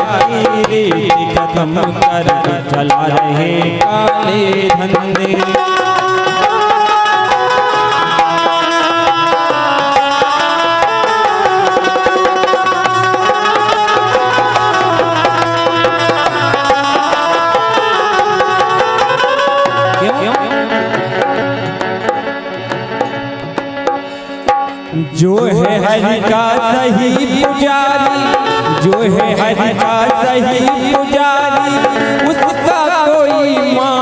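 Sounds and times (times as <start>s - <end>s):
folk melody instrument: 0.0s - 34.0s
tabla strokes: 0.0s - 34.0s.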